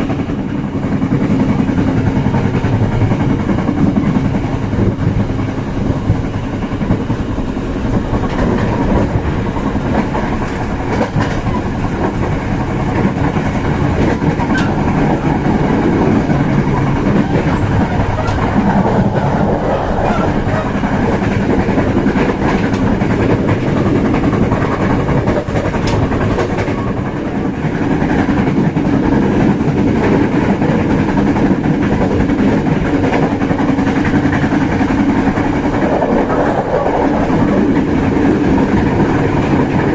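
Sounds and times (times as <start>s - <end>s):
rail joint clicks: 0.0s - 39.9s
train wheels rumbling on rails: 0.0s - 39.9s.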